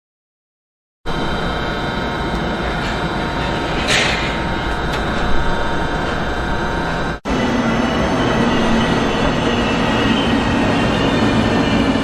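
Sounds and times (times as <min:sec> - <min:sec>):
high whining tones: 0:01.1 - 0:12.0
train rumbling on rails: 0:01.1 - 0:12.0.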